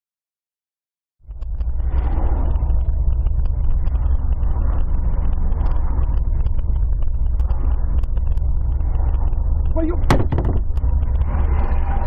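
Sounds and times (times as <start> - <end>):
car engine and road noise: 1.2 - 12.0.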